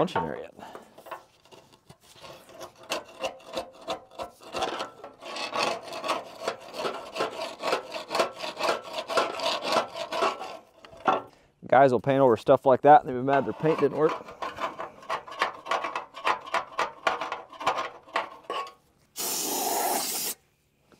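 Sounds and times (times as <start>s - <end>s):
hand tool scraping rusty metal: 0.0s - 11.4s, 13.1s - 19.4s.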